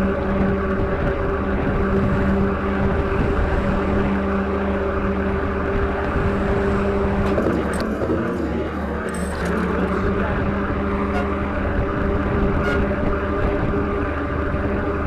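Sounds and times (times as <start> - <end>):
road noise: 0.0 - 15.0
rushing wind: 0.0 - 15.0
truck engine droning: 0.0 - 15.0.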